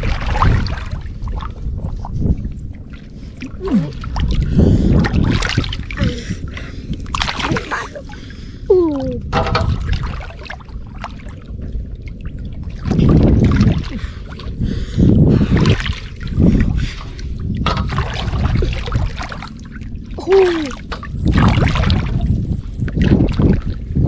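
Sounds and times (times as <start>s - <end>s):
river water sloshing and splashing: 0.0s - 24.0s.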